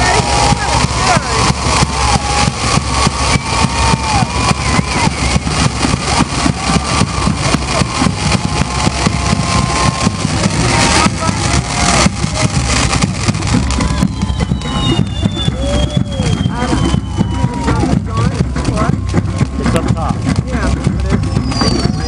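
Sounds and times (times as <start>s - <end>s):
drums beating fast rhythm: 0.0s - 22.0s
voices calling and whooping: 0.0s - 22.0s.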